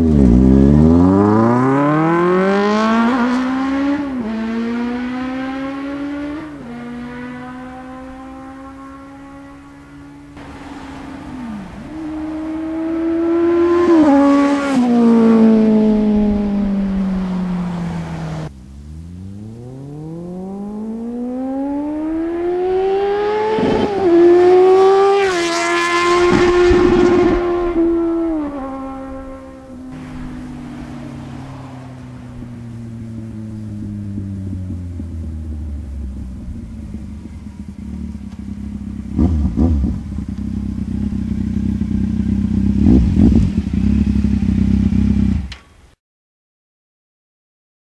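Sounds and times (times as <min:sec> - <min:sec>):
motorcycle engine accelerating hard: 0:00.0 - 0:45.6.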